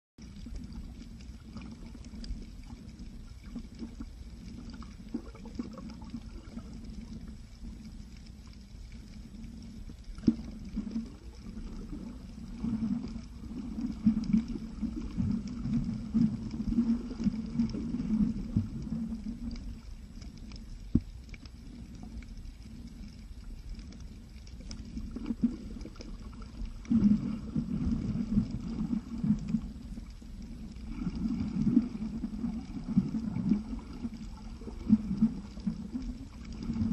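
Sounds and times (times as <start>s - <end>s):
muffled underwater rumble: 0.2s - 36.9s.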